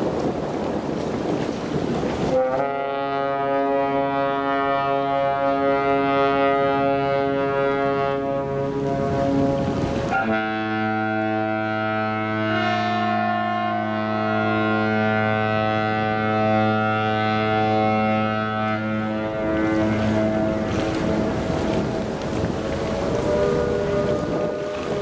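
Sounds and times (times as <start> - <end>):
wind on microphone: 0.0 - 25.0
ship horn blasts: 2.1 - 25.0
deeper ship horn: 2.2 - 25.0.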